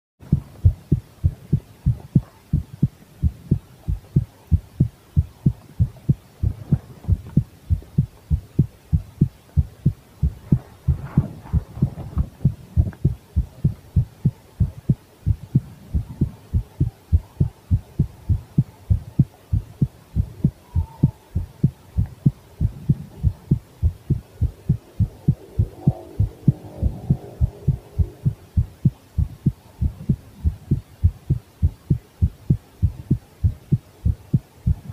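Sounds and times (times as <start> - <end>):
heartbeat thuds: 0.2 - 34.9.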